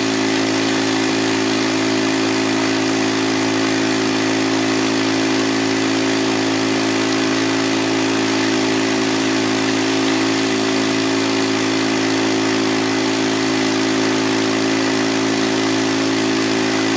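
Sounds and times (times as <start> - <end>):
small gas engine running: 0.0 - 16.9.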